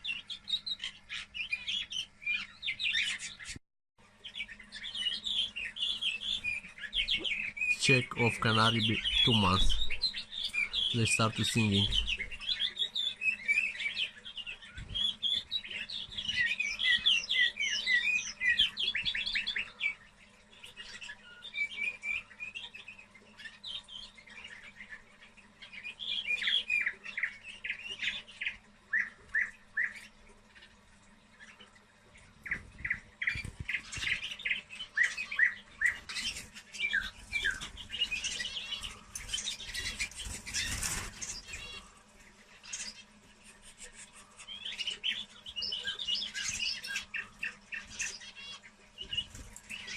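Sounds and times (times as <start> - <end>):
canary singing: 0.0 - 49.9.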